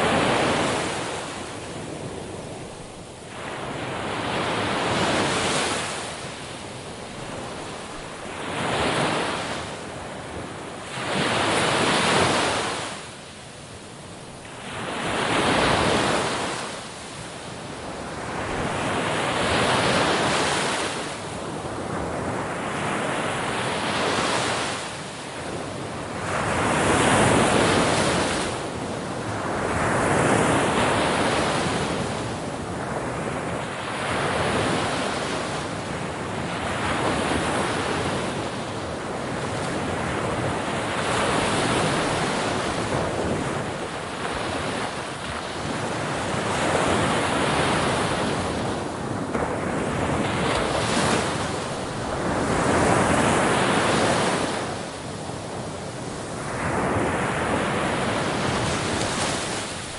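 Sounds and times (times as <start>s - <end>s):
ocean waves breaking on shore: 0.0s - 59.9s
wind noise on microphone: 0.0s - 59.9s.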